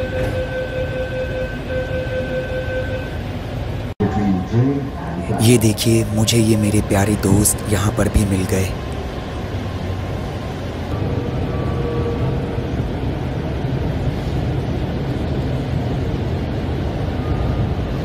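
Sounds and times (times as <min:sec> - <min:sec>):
faint whine: 0:00.0 - 0:18.0
train carriage low rumble: 0:00.0 - 0:18.0.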